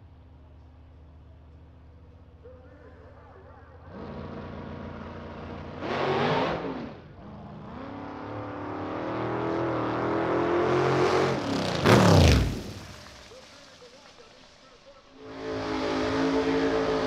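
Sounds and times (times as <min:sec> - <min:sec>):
car engine idling and revving: 0:00.0 - 0:13.3, 0:15.2 - 0:17.0.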